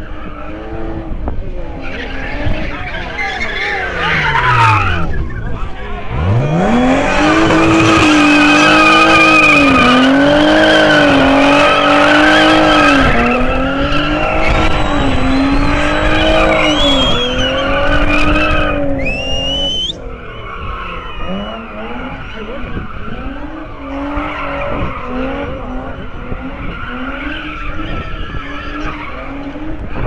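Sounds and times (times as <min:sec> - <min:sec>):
car engine revving: 0:00.0 - 0:30.0
tyres squealing on asphalt: 0:00.0 - 0:30.0.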